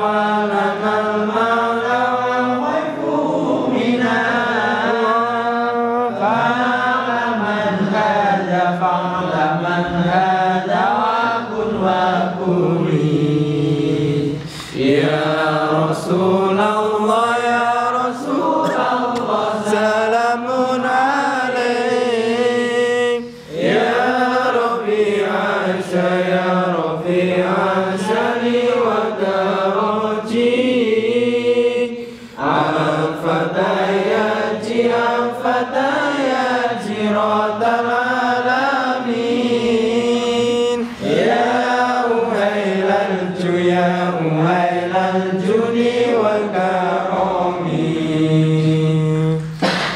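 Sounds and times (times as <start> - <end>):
men chanting devotional song: 0.0 - 49.9.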